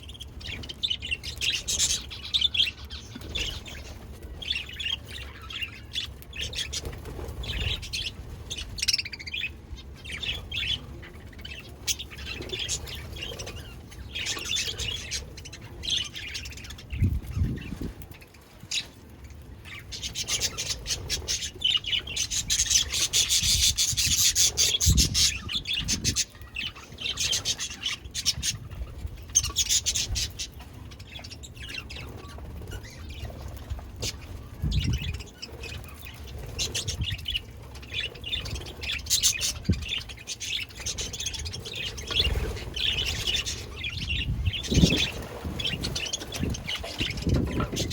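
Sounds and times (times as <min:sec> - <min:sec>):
budgies chirping and chattering: 0:00.0 - 0:47.9.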